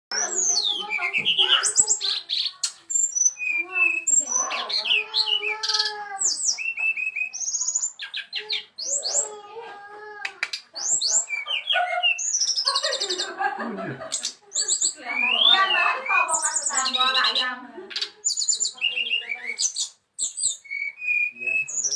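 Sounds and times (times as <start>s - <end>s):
bird singing: 0.1s - 9.6s, 10.4s - 21.9s.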